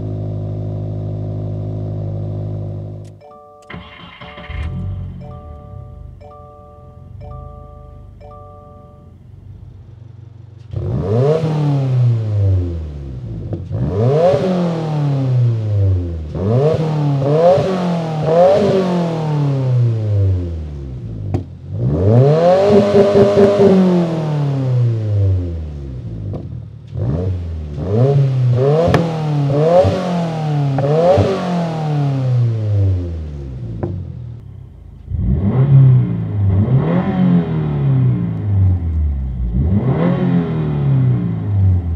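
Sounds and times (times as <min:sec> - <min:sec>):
car engine revving: 0:03.7 - 0:41.9.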